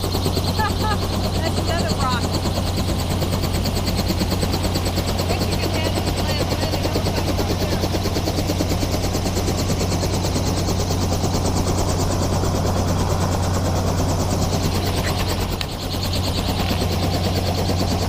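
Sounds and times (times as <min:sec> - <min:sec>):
helicopter engine hum: 0:00.0 - 0:18.0
rotor blades chopping: 0:00.0 - 0:18.0.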